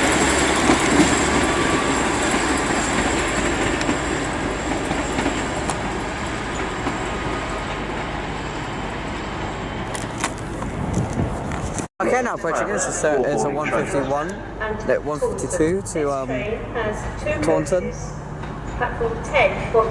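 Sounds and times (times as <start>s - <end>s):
train running noise: 0.0s - 19.9s.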